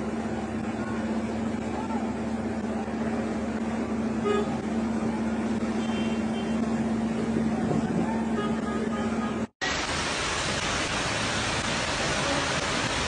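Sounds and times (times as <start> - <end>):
street noise: 0.0 - 13.0
vehicle engines running: 0.0 - 13.0.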